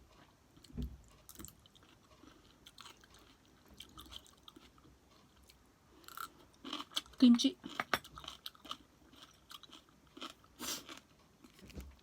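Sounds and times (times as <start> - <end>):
chewing and mouth sounds: 1.3 - 11.6.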